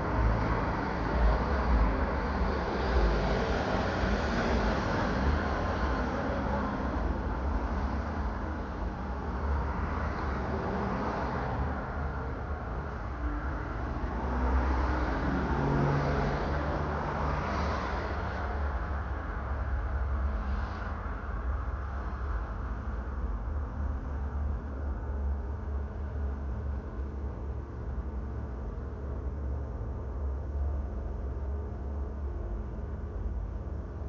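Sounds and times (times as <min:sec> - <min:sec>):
road vehicle rumble: 0:00.0 - 0:34.0.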